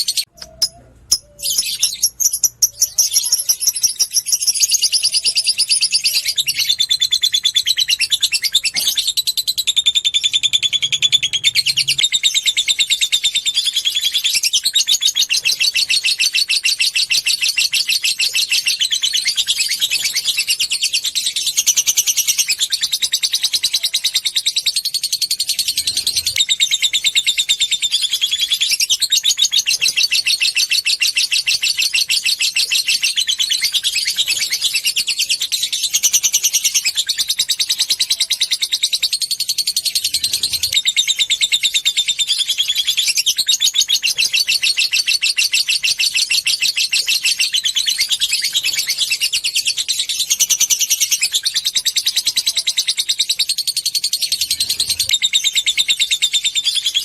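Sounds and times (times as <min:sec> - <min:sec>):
lovebird chattering: 0:00.0 - 0:57.0.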